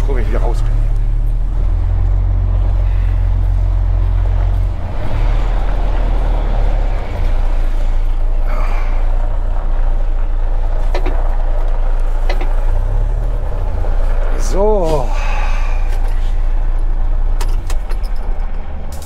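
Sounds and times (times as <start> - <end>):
truck diesel engine hum: 0.0 - 19.0.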